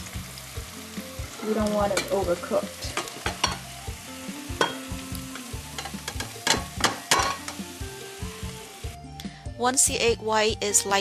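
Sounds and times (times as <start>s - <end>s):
eggs sizzling in a frying pan: 0.0s - 11.0s.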